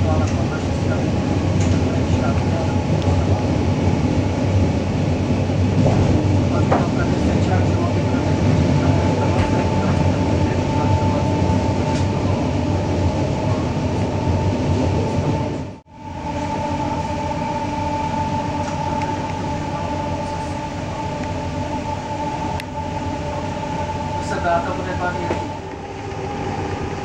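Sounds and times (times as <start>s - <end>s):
constant train whine: 0.0s - 27.0s
train wheels rumbling on rails: 0.0s - 27.0s.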